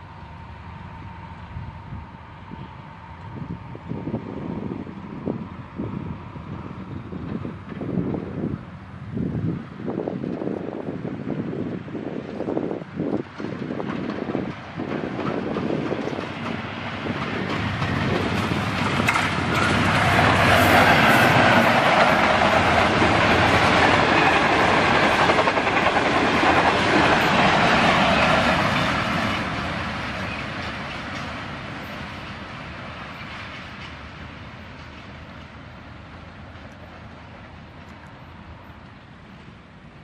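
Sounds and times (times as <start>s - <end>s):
express train passing: 0.0s - 40.0s.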